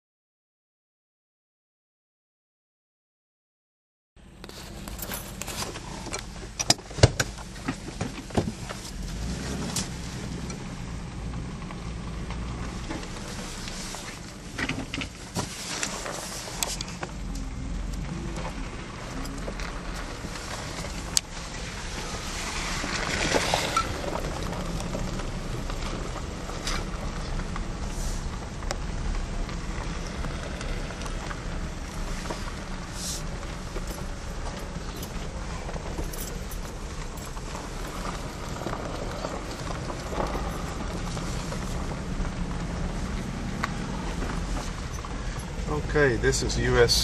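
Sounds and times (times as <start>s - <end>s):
car road rumble: 4.2s - 47.0s
car rattling clicks and knocks: 4.7s - 10.8s, 11.4s - 17.2s, 18.0s - 47.0s.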